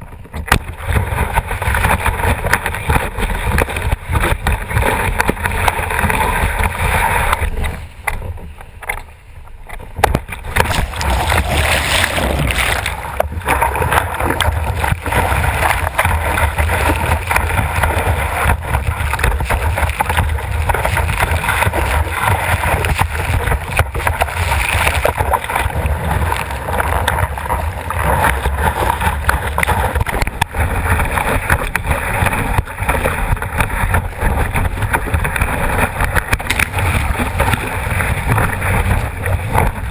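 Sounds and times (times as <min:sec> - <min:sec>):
water rushing and splashing: 0:00.0 - 0:39.9
wind buffeting camera: 0:00.0 - 0:39.9.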